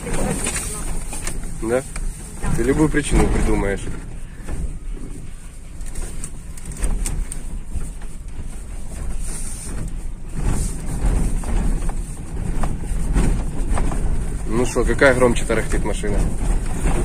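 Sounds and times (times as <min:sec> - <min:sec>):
knocks and rattles over bumps: 0:00.0 - 0:17.0
tyre and suspension rumble: 0:00.0 - 0:17.0.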